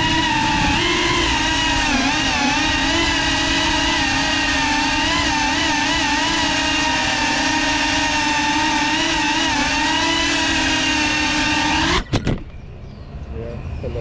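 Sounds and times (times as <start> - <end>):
quadcopter propellers whining: 0.0 - 12.7.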